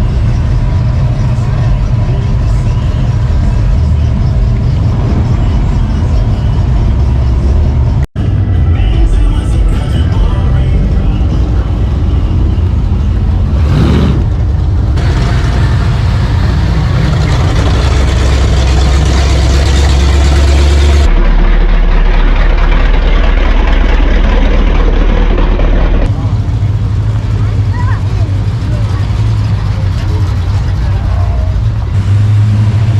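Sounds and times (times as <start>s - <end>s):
car engines rumbling loudly: 0.0s - 32.9s.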